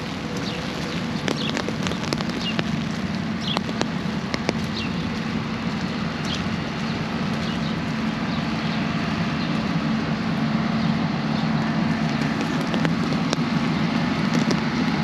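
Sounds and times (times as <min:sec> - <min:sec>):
rain falling: 0:00.0 - 0:15.0
traffic drone: 0:00.0 - 0:15.0.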